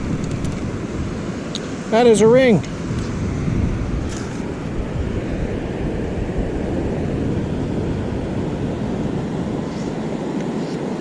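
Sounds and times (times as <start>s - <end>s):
ocean surf rushing: 0.0s - 11.0s
wind buffeting microphone: 0.0s - 11.0s.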